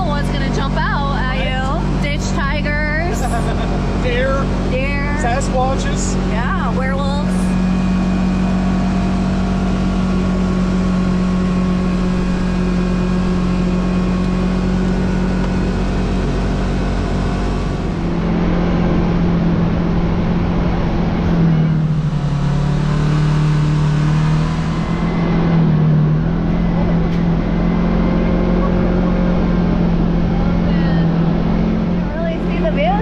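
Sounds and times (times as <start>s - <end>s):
utility vehicle engine droning: 0.0s - 33.0s.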